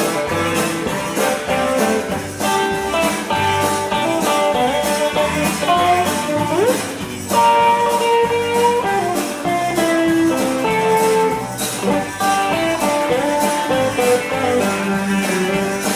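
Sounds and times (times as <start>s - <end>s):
guitar melody notes: 0.0s - 15.9s
live rock band playing: 0.0s - 15.9s
steady drum beat: 0.0s - 15.9s.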